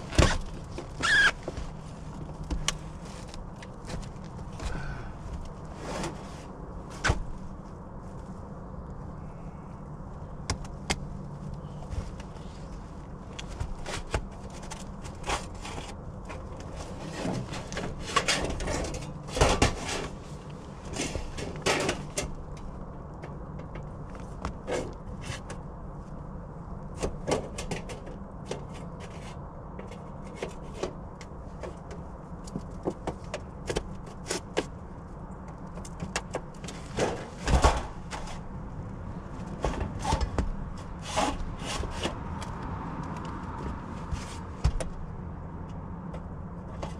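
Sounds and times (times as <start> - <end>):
steady low rumble: 0.0 - 27.3, 28.2 - 46.9.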